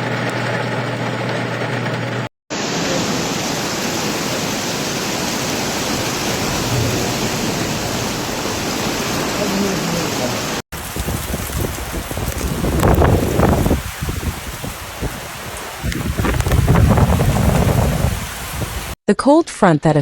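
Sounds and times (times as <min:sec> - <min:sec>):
heavy rain and running water: 0:02.5 - 0:19.0.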